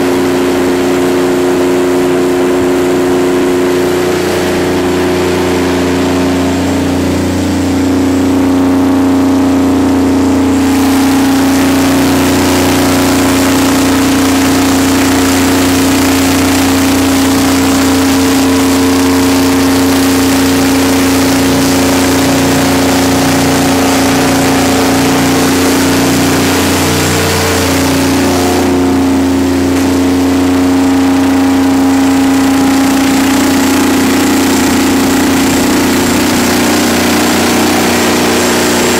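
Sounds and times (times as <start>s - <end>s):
diesel generator engine droning: 0.0s - 38.9s.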